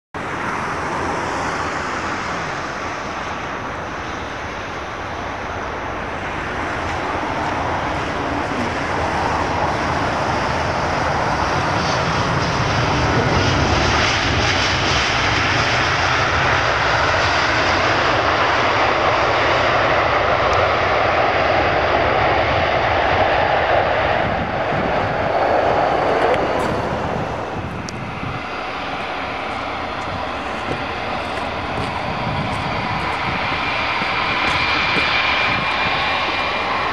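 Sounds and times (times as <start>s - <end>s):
jet engines rushing: 0.2s - 36.9s.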